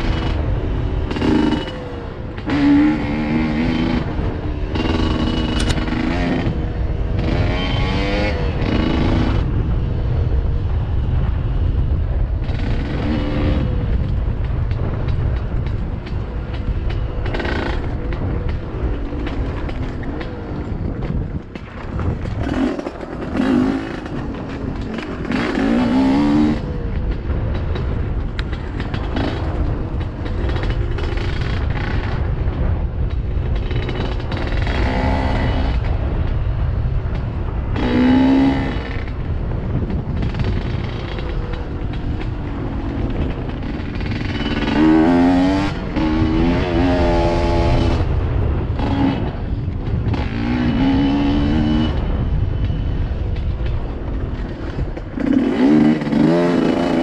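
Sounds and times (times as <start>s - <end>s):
dirt bike engine revving: 0.0s - 9.9s, 12.4s - 14.1s, 16.4s - 32.6s, 33.5s - 39.3s, 40.2s - 52.4s, 53.7s - 57.0s.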